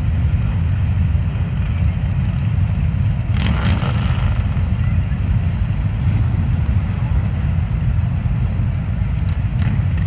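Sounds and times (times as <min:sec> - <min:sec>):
motorcycle engines rumbling: 0:00.0 - 0:10.0.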